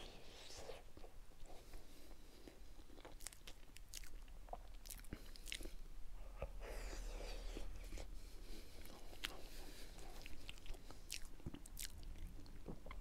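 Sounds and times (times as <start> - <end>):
man chewing: 0.0 - 13.0.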